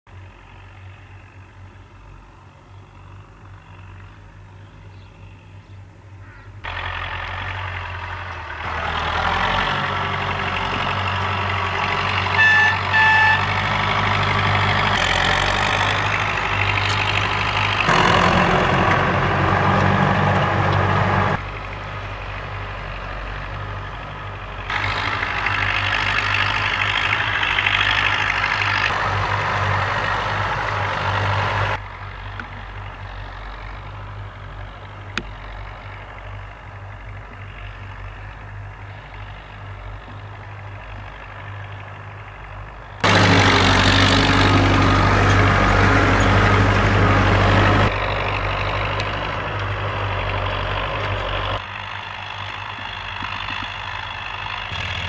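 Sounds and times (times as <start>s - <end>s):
tractor diesel engines running: 0.1s - 55.0s.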